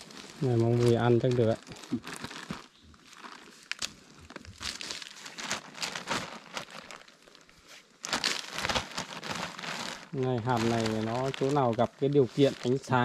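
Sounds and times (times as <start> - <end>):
old sack crinkling and rustling: 0.0 - 13.0.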